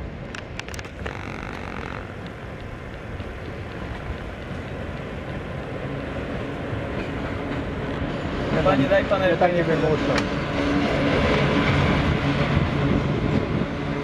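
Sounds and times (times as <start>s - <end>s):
locomotive low rumble: 0.0s - 14.0s.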